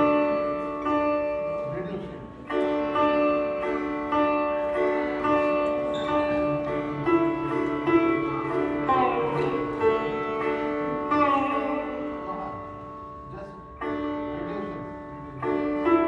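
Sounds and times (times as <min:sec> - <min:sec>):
sitar plucked notes: 0:00.0 - 0:16.0.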